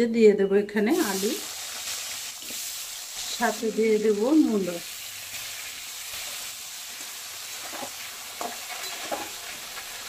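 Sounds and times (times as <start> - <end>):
vegetables sizzling in hot oil: 0.9 - 10.0.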